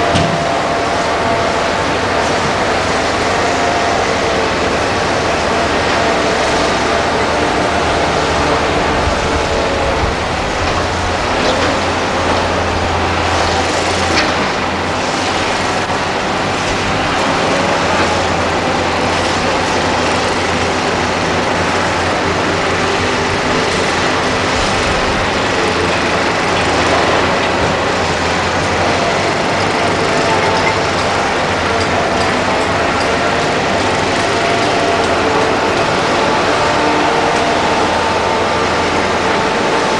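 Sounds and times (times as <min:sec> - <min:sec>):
diesel engines under load: 0:00.0 - 0:39.9
steel tracks and bucket clanking: 0:00.0 - 0:39.9.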